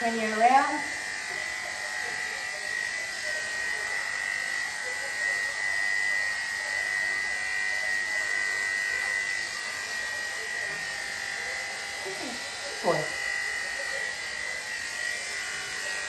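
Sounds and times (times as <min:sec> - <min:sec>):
electric clippers buzzing: 0:00.0 - 0:16.0.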